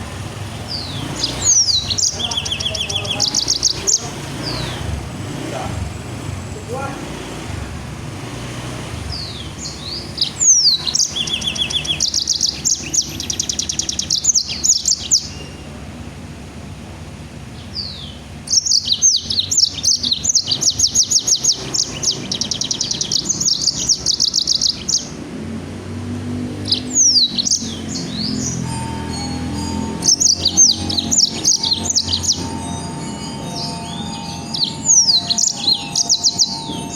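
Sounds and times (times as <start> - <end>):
songbird singing rapid high notes: 0.0 - 7.4, 8.2 - 15.9, 17.5 - 36.9.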